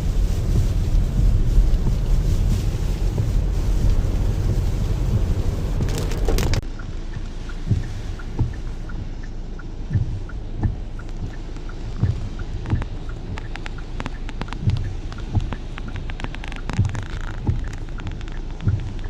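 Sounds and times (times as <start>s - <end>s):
light ticking: 0.0s - 19.0s
road and wind noise: 0.0s - 19.0s
soft low thumps: 0.0s - 19.0s.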